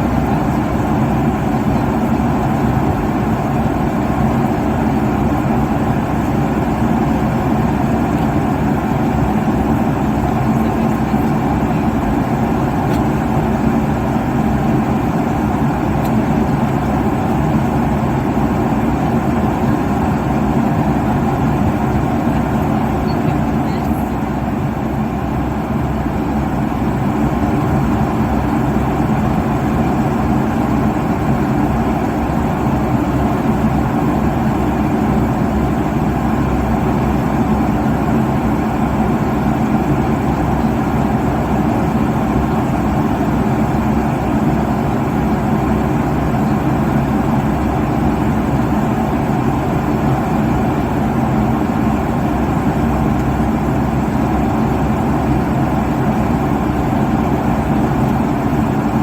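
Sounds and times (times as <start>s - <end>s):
airliner cabin jet engine hum: 0.0s - 59.0s.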